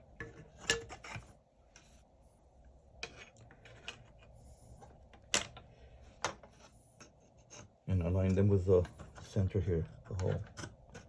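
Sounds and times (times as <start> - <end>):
parts scraping: 0.0 - 2.1, 3.0 - 11.0.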